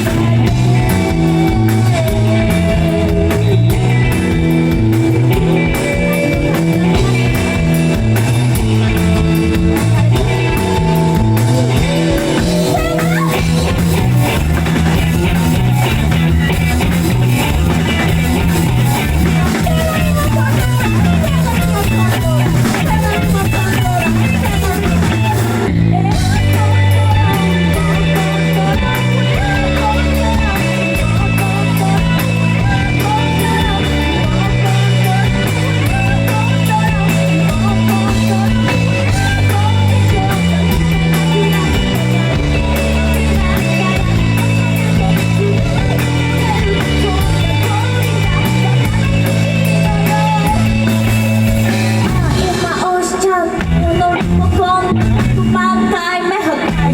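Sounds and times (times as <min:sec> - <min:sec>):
bass guitar: 0:00.0 - 0:56.9
drum kit: 0:00.0 - 0:56.9
electric guitar: 0:00.0 - 0:56.9.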